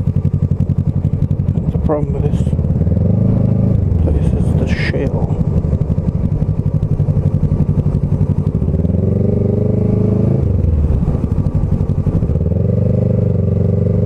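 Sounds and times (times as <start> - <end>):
motorcycle engine: 0.0 - 14.0
wind and road noise: 0.0 - 14.0.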